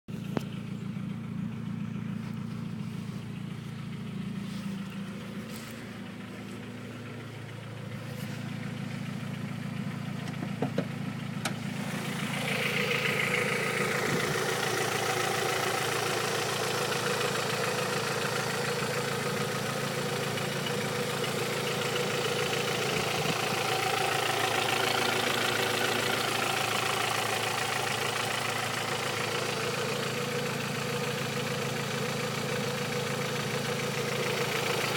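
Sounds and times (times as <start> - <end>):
engine idling with a knock: 0.1 - 34.9.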